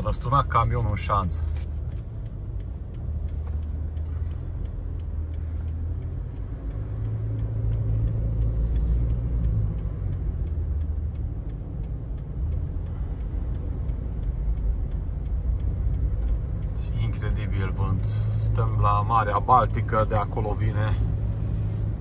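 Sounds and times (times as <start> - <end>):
car cabin rumble: 0.0 - 22.0
faint regular ticking: 0.0 - 22.0.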